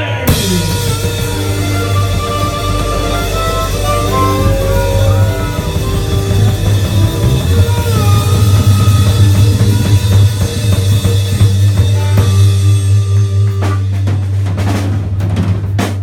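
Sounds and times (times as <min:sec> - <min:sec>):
sliding guitar note: 0:00.3 - 0:14.3
country rock band playing: 0:00.3 - 0:15.2
drum hits: 0:00.3 - 0:16.0.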